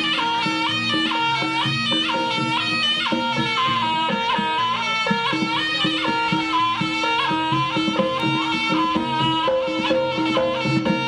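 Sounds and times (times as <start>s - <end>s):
shawm melody: 0.0s - 11.0s
steady drumming: 0.0s - 11.0s.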